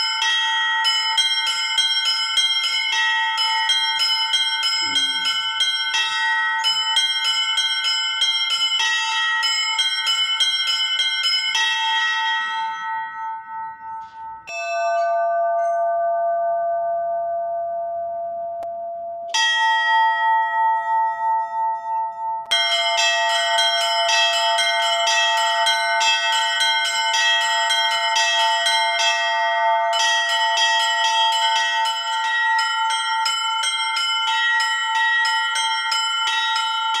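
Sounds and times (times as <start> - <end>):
large church bells ringing: 0.0 - 18.7, 19.3 - 21.3, 21.9 - 37.0
small bells chiming quickly: 0.0 - 37.0.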